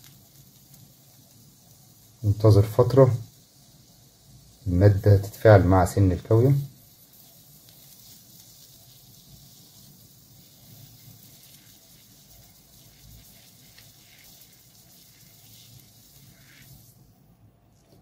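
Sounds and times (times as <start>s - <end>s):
soldering iron tip sizzling: 0.0s - 18.0s.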